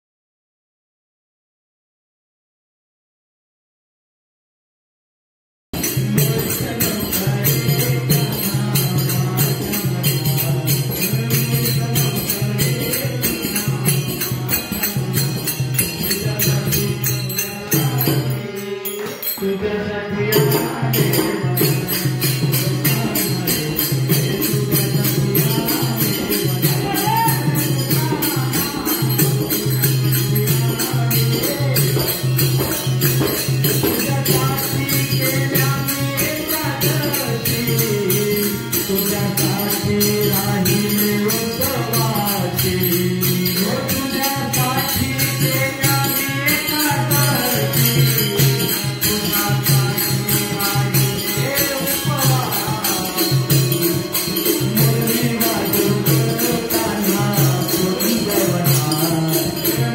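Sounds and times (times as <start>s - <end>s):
small hand cymbals jingling: 5.8s - 19.7s, 20.3s - 59.9s
harmonium drone and melody: 5.8s - 59.9s.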